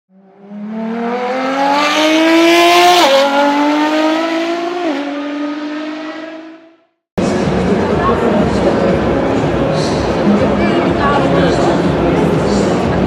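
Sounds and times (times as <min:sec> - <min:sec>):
car engine accelerating: 0:00.1 - 0:13.0.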